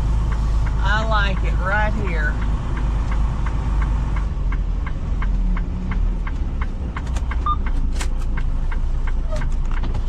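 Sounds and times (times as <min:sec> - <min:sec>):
truck diesel engine rumbling: 0:00.0 - 0:10.0
light regular ticking: 0:00.1 - 0:09.8.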